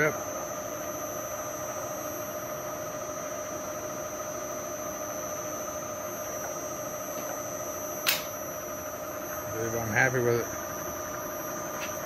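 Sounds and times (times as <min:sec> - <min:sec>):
milling machine motor whine: 0:00.0 - 0:12.0.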